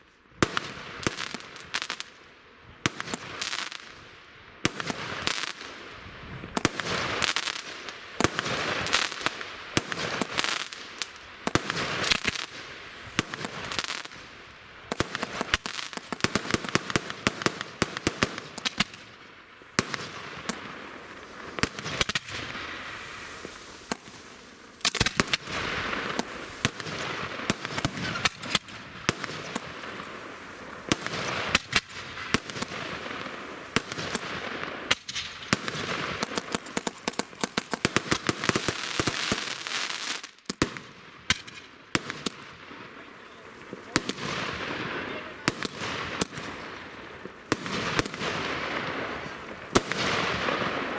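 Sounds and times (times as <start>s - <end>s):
fireworks crackling and hissing: 0.0s - 50.9s
fireworks bangs: 0.4s - 2.1s, 2.8s - 50.9s.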